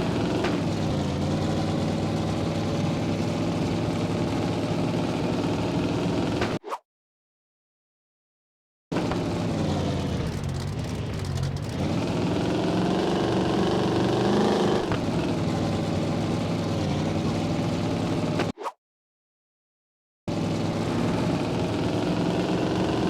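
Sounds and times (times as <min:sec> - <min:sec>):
car engine revving: 0:00.0 - 0:06.5, 0:08.9 - 0:18.4, 0:20.3 - 0:23.0.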